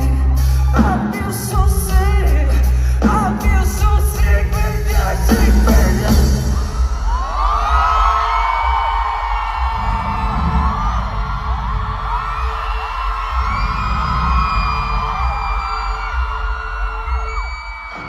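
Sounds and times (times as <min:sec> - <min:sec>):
live pop band with heavy bass: 0:00.0 - 0:18.0.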